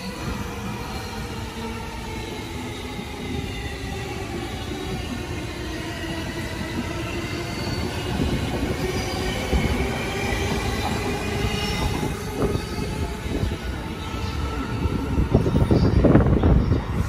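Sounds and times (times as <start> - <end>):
rumble of wheels on rail: 0.0 - 17.0
train wheels squealing: 0.0 - 17.0.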